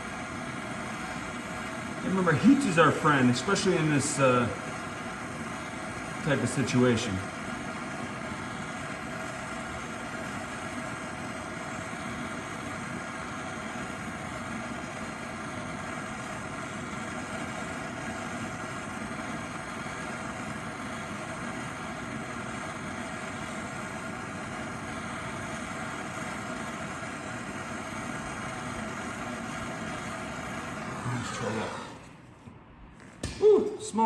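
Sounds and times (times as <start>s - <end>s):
gas torch flame hissing: 0.0s - 34.0s.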